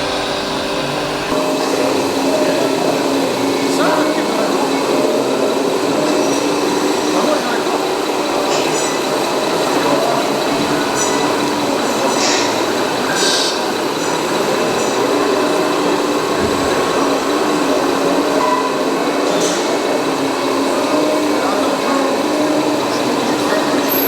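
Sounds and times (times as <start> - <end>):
small motors whining: 0.0 - 24.0.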